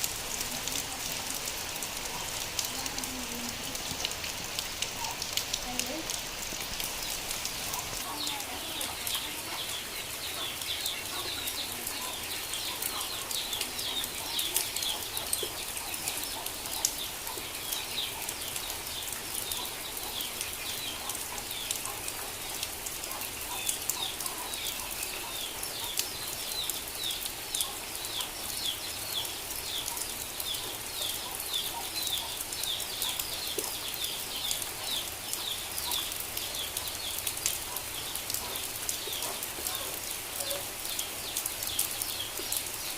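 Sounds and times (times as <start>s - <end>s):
rain hissing and pattering: 0.0s - 42.9s.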